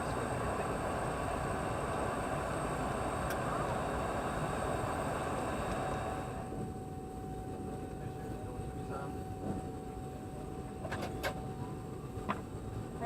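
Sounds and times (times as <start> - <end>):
aircraft cabin rumble: 0.0 - 13.0
constant whine: 0.0 - 13.0.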